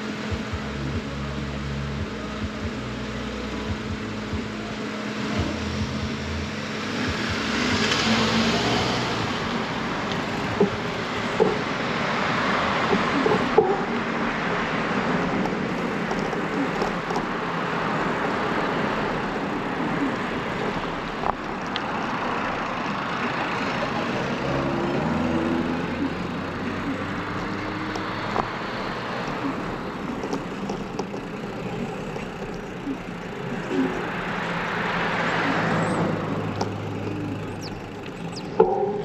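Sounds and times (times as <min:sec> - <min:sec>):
car engine passing: 0:00.0 - 0:39.0
road noise: 0:00.0 - 0:39.0.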